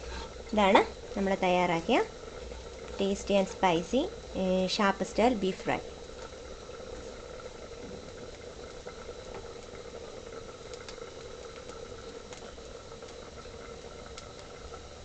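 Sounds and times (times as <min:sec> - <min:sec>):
meat frying crackles: 0:00.0 - 0:15.0
steady background hum: 0:00.0 - 0:15.0.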